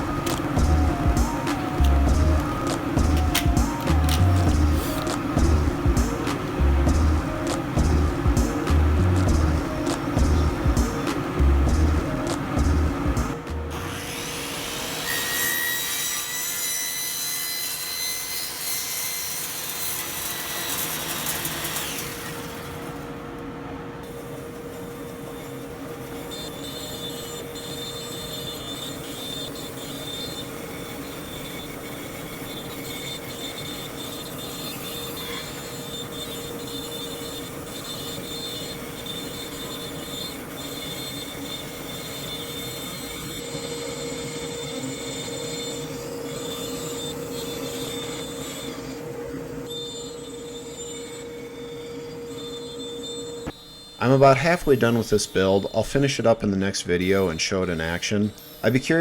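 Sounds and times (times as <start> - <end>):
machine hum: 0.0 - 16.0, 18.6 - 56.5
power tool cutting wood: 0.0 - 59.0.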